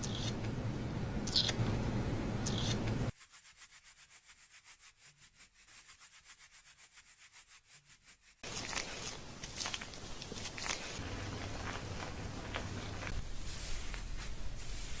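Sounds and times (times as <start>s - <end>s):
fingers scrubbing lathered scalp: 2.6s - 15.0s.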